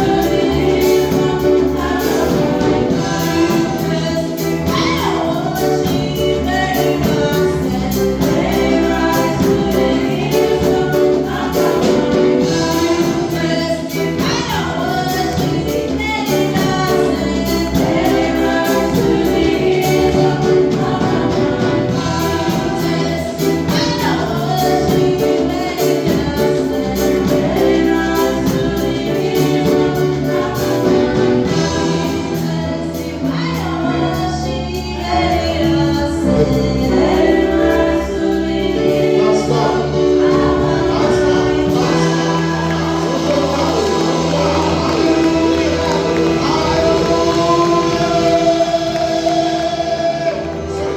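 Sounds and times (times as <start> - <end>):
choir singing: 0.0 - 50.9
instrumental backing music: 0.0 - 50.9.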